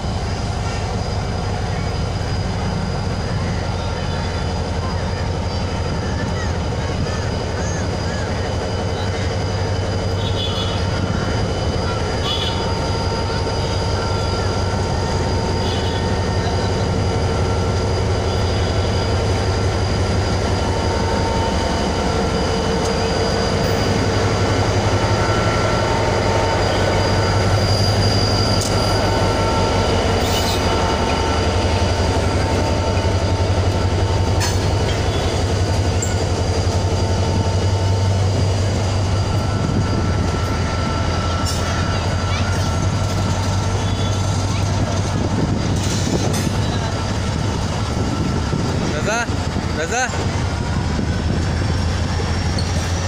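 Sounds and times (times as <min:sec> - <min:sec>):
diesel locomotive engine throbbing: 0:00.0 - 0:53.0
train wheel squeal: 0:00.0 - 0:53.0.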